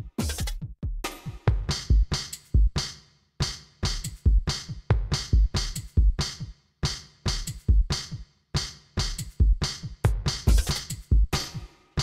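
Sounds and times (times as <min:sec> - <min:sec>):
electronic music with drum-machine beat: 0:00.0 - 0:12.0.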